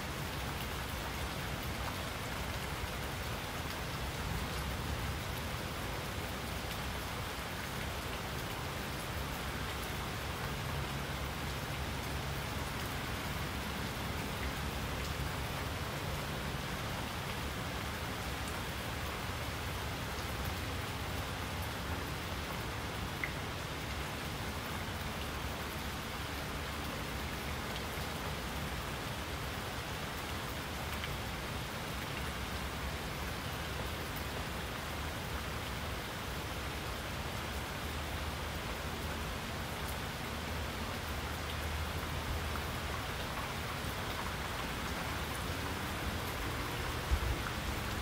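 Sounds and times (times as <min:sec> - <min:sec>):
steady rain: 0:00.0 - 0:48.0.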